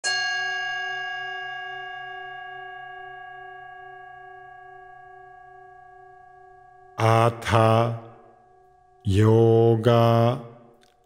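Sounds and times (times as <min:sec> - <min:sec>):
singing bowl ringing: 0:00.0 - 0:09.1.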